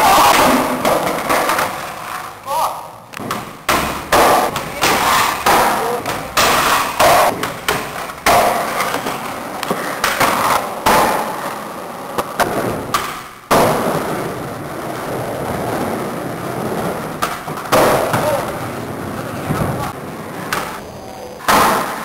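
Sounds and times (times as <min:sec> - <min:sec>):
skateboards clacking and thudding: 0:00.0 - 0:02.4, 0:03.1 - 0:22.0
skateboard wheels rolling: 0:00.0 - 0:02.5, 0:03.2 - 0:22.0.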